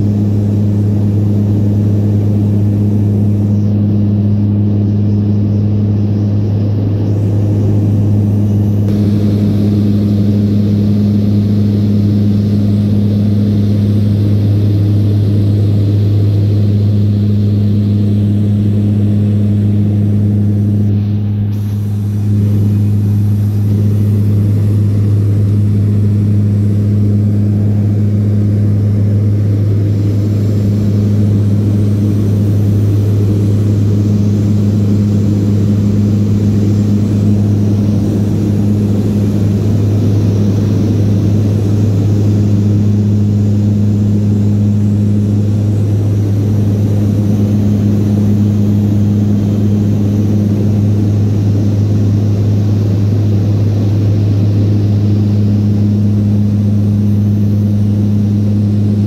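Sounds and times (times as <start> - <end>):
aircraft engines droning in cabin: 0.0 - 59.0.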